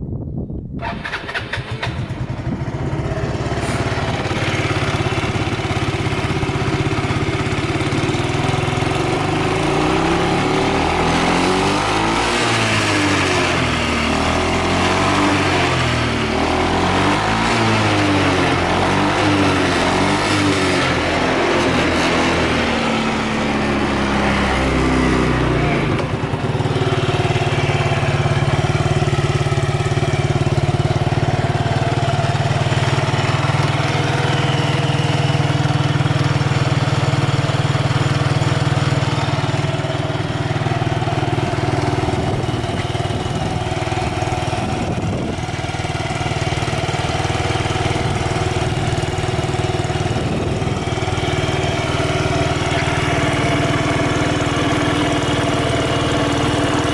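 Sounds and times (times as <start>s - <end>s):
scooter engine idling: 0.8s - 56.9s.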